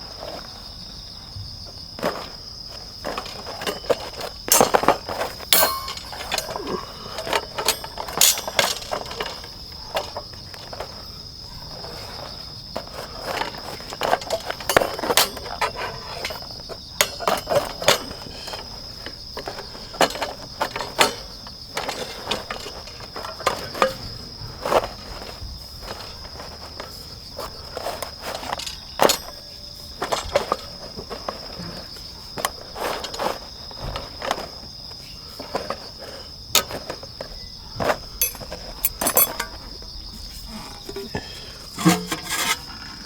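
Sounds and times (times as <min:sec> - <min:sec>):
camp gear clattering: 0:00.0 - 0:43.0
insects trilling: 0:00.0 - 0:43.0.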